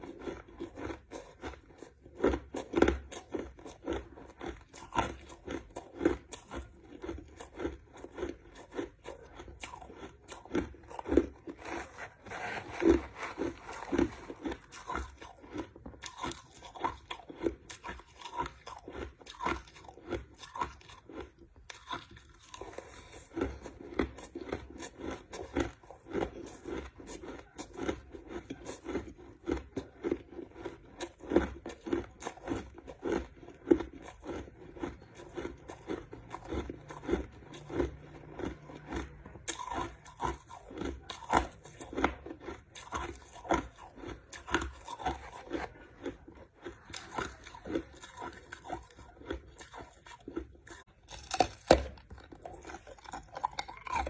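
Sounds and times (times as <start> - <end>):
person chewing crushed ice: 0.0 - 54.0.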